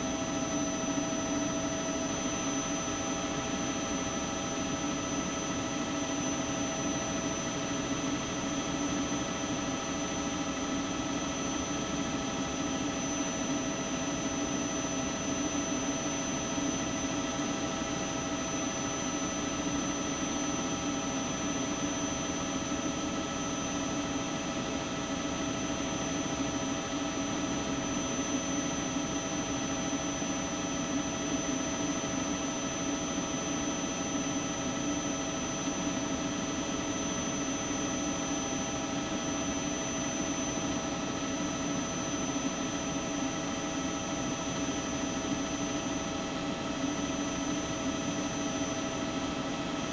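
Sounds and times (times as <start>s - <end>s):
helicopter turbine engine running: 0.0s - 49.9s.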